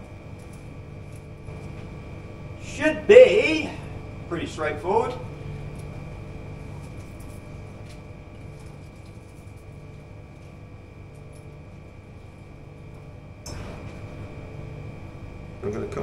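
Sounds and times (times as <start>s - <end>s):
electrical room hum: 0.0s - 16.0s
thin high whine: 0.0s - 16.0s.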